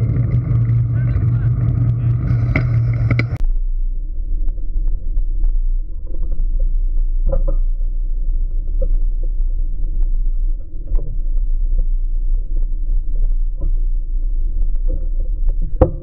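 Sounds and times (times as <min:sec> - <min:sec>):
bicycle riding rumble: 0:00.0 - 0:16.0.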